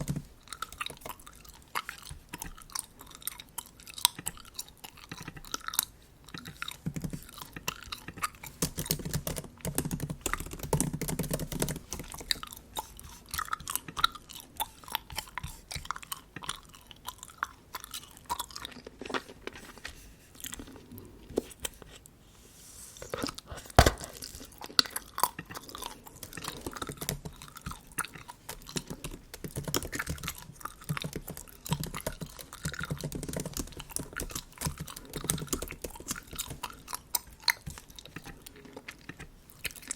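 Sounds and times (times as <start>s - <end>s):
bubble gum chewing: 0.0s - 22.2s, 23.0s - 39.9s.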